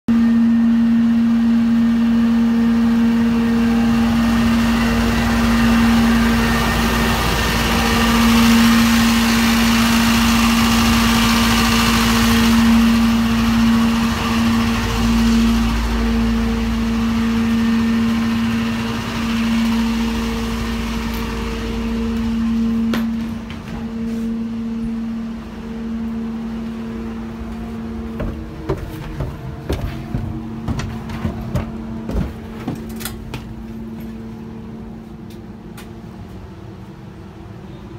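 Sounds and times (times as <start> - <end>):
vacuum machine hum: 0.1 - 36.9.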